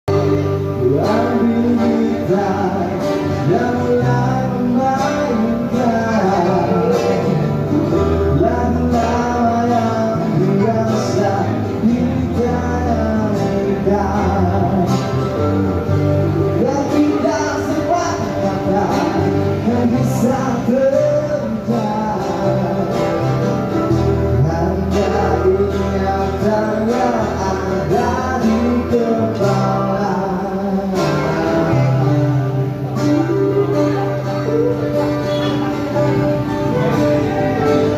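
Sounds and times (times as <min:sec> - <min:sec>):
guitar accompaniment: 0:00.1 - 0:37.9
man singing: 0:00.1 - 0:37.9.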